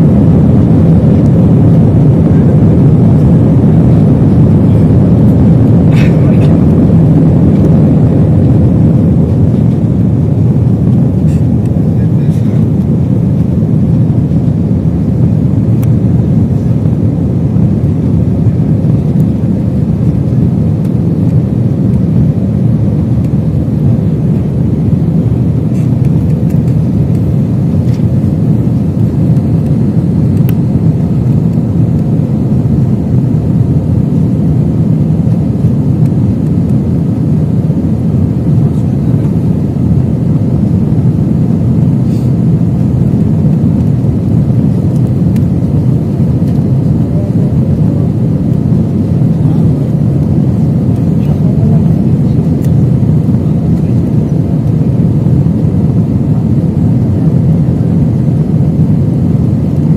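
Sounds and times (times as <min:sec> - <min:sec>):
jet engines deep rumble: 0:00.0 - 0:59.9.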